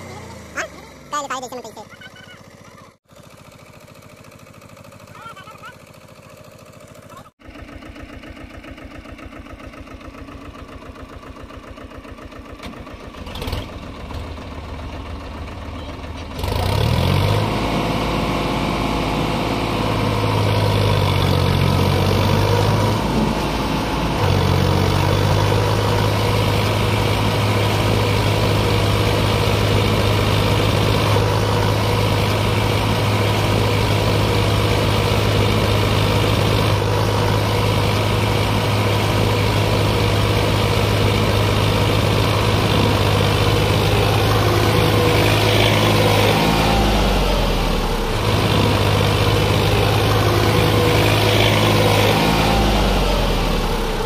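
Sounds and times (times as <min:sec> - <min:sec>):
tractor diesel engine working hard: 0:00.0 - 0:54.0.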